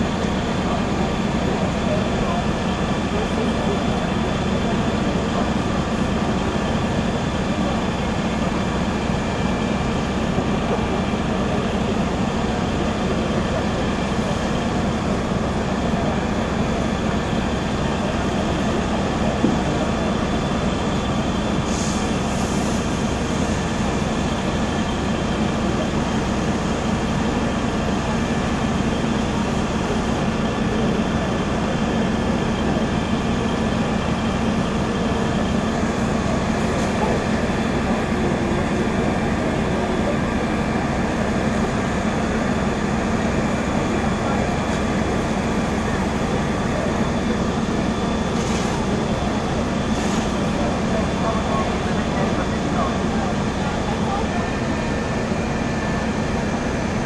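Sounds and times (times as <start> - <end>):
diesel engines and pumps droning: 0.0 - 57.0.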